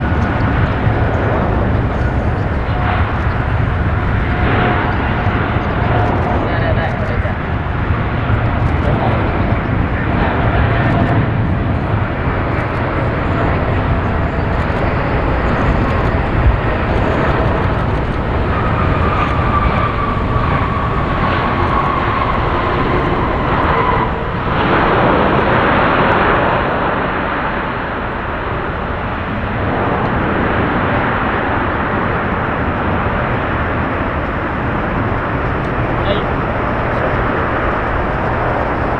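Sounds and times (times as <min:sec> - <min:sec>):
jet aircraft taking off: 0:00.0 - 0:38.9
jet engine whine: 0:00.0 - 0:38.9.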